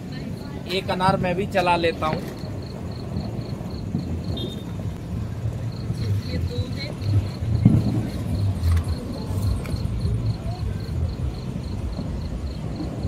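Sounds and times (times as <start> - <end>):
cricket chirping: 0.0 - 13.0
low rumble: 2.2 - 13.0.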